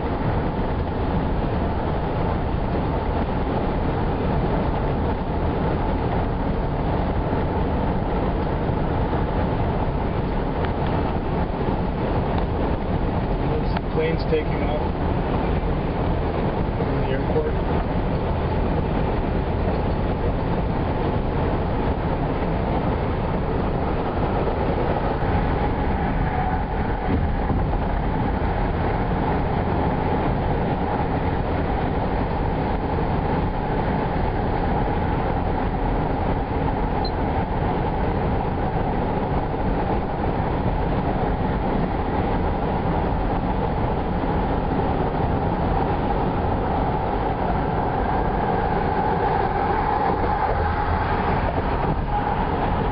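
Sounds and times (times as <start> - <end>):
car road and engine noise: 0.0 - 52.9.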